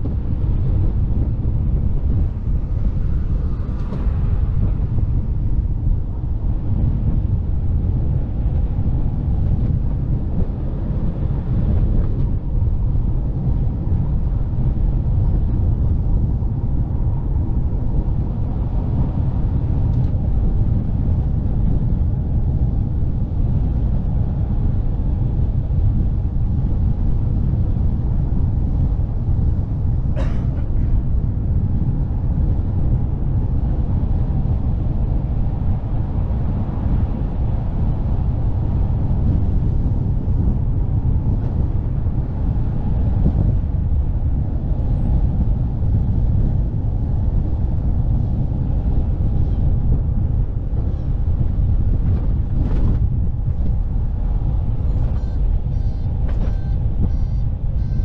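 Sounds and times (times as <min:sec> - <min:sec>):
road and wind noise: 0:00.0 - 0:58.0.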